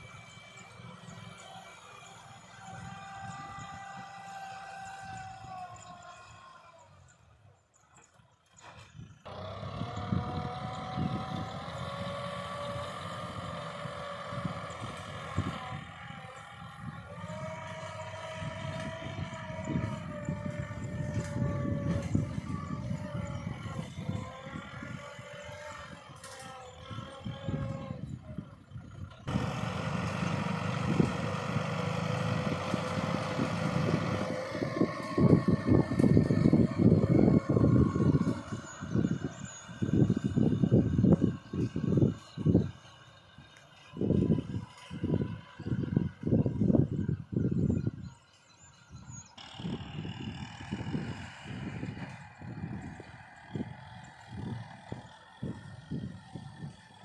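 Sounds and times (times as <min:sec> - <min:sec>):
tiller rumbling through soil: 0:00.0 - 0:07.1, 0:07.8 - 0:47.9, 0:48.8 - 0:57.0
tractor engine under load: 0:00.0 - 0:57.0.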